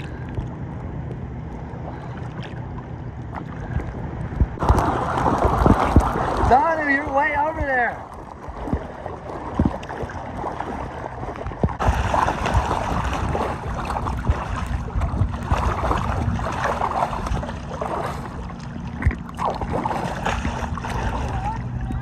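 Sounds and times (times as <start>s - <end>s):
lake water sloshing and splashing: 0.0s - 22.0s.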